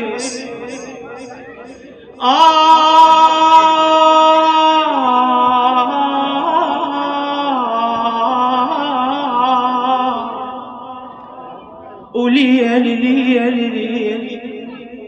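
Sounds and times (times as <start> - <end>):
man singing long note: 0.0 - 14.9.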